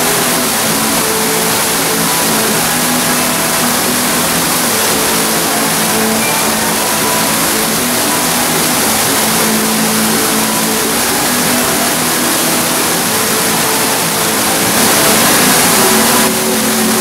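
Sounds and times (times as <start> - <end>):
waterfall rushing into pool: 0.0 - 17.0.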